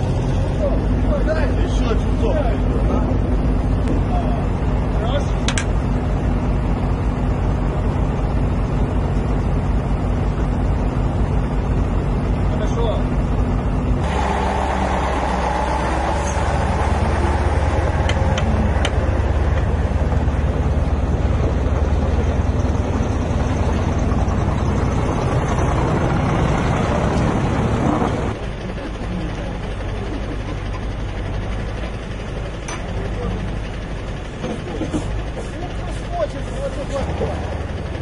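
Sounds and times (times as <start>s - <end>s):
large engine running: 0.0s - 38.0s.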